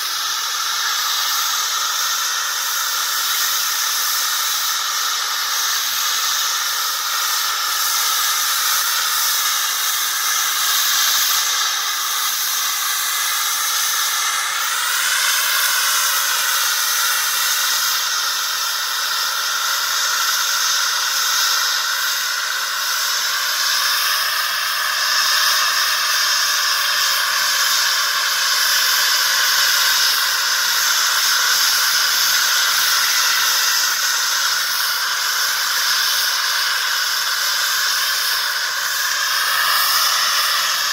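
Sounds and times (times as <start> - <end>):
jet turbine hissing and whining: 0.0 - 40.9.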